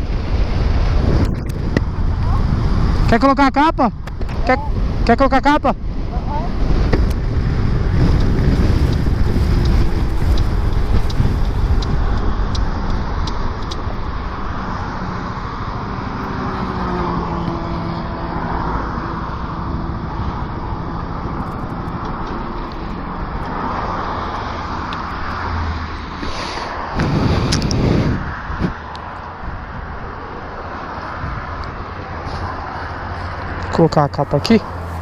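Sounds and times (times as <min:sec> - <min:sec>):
road noise: 0:00.0 - 0:35.0
wind rumble on microphone: 0:00.0 - 0:35.0
scooter engine humming: 0:06.4 - 0:35.0.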